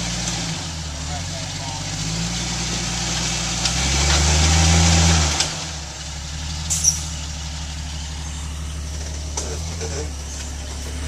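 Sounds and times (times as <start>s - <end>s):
engine working under load: 0.0s - 11.0s.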